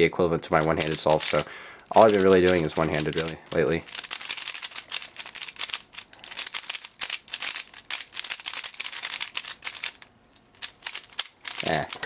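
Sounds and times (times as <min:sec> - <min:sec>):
puzzle cube plastic clicks: 0:00.6 - 0:12.0.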